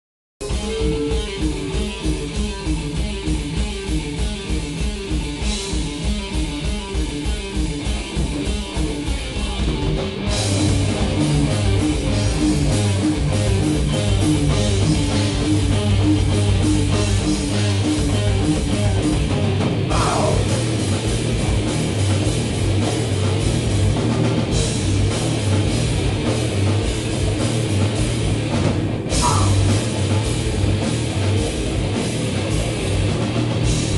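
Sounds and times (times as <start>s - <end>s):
distorted electric guitars: 0.4s - 33.9s
drums: 0.4s - 33.9s
metal band playing: 0.4s - 33.9s.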